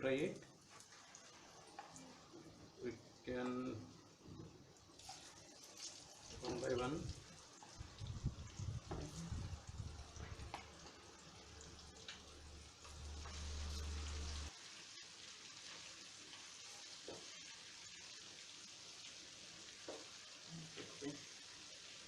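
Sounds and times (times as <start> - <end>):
food sizzling in hot oil: 0.1 - 22.0.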